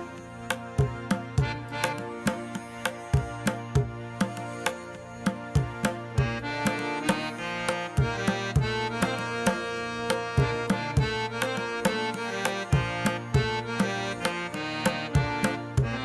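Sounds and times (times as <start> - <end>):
hand drum rhythm: 0.0 - 16.0
sustained melodic tones: 0.0 - 16.0.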